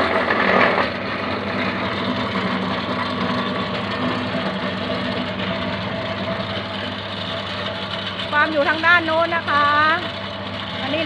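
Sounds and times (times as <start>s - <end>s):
machine engine droning: 0.0s - 11.0s.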